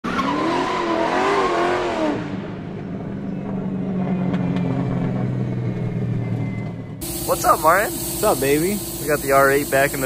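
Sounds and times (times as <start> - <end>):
car engine humming: 0.0 - 10.0.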